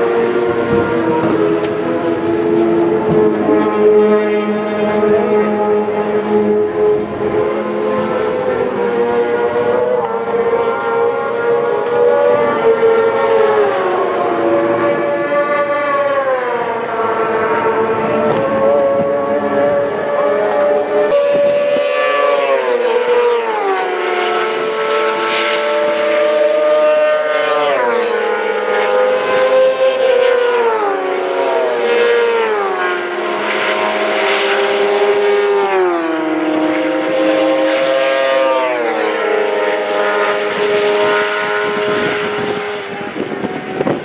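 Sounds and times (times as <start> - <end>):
racing engines at high revs: 0.0 - 44.0.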